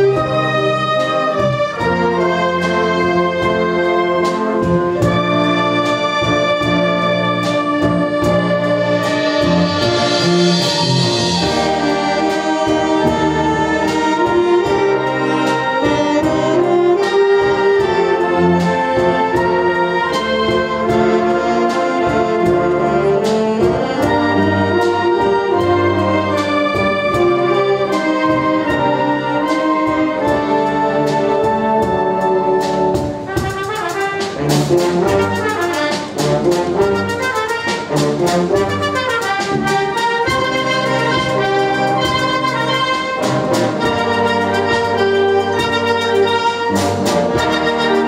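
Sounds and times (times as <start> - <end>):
wind band playing: 0.0 - 48.0
drum strokes: 0.1 - 26.0, 26.7 - 48.0.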